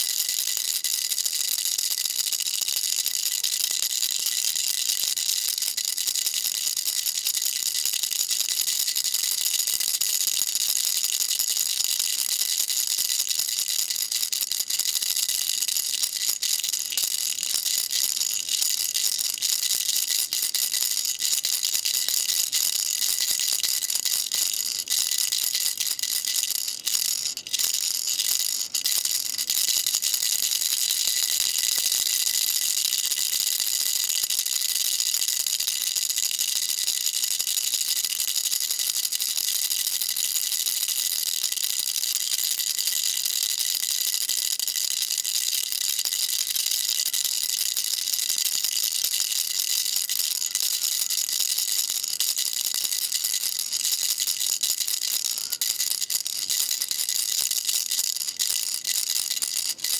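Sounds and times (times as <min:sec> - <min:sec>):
baby rattle shaking: 0:00.0 - 0:59.9.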